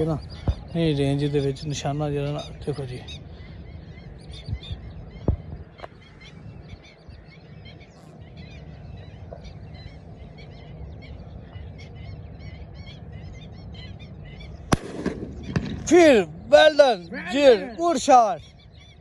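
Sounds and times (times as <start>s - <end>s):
flock of birds calling: 0.0s - 19.0s
low outdoor rumble: 0.0s - 19.0s.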